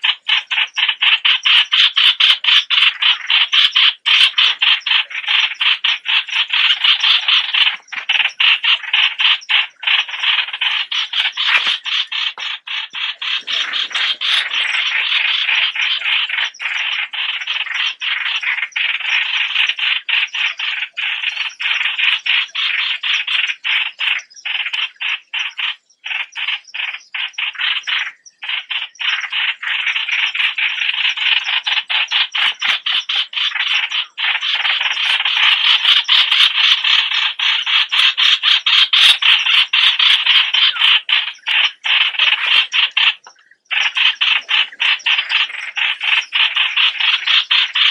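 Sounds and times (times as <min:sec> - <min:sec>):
birds chattering: 0:00.0 - 0:47.9.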